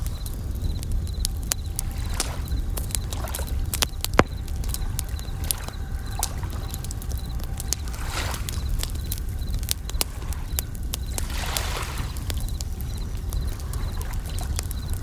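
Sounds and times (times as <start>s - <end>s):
campfire crackling: 0.0s - 15.0s
crickets trilling: 0.0s - 15.0s.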